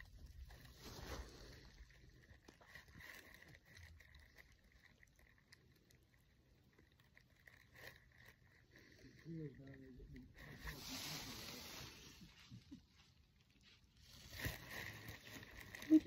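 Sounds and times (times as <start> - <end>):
small clicks and rustles: 0.0 - 16.0.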